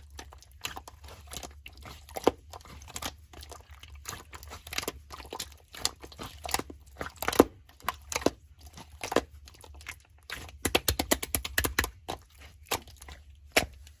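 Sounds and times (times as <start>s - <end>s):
slime squished by hand: 0.0s - 14.0s.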